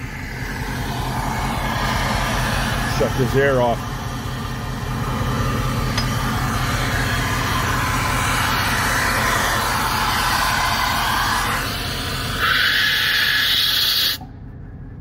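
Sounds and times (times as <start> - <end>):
diesel locomotive engine idling: 0.0 - 15.0.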